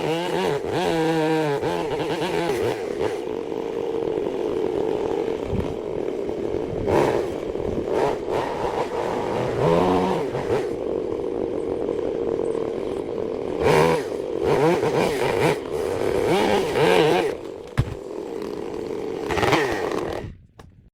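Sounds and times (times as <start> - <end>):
power tool humming: 0.0 - 20.7.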